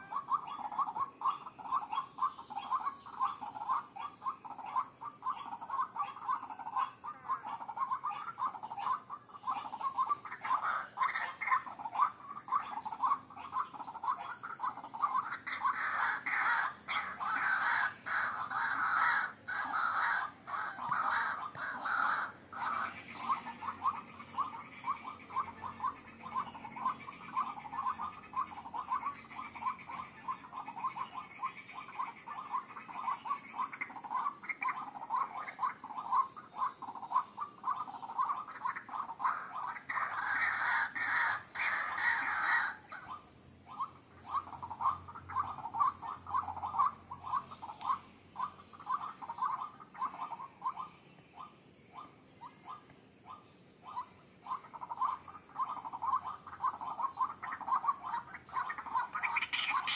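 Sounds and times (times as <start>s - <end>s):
waterhen calling: 0.0s - 59.9s.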